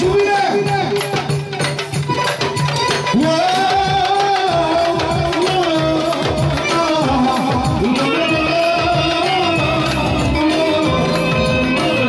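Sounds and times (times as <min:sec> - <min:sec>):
ornamented melody with singing: 0:00.0 - 0:12.0
steady drum beat: 0:00.0 - 0:12.0.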